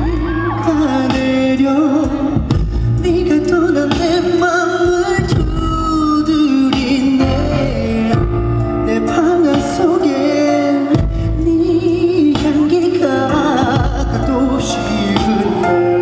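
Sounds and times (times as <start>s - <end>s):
band accompaniment: 0.0s - 16.0s
man singing: 0.0s - 16.0s.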